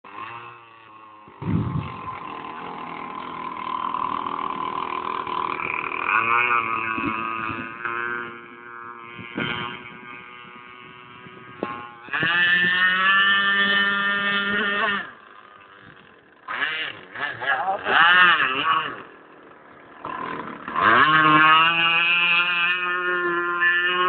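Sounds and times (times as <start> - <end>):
model boat motor whine: 0.1 - 24.0.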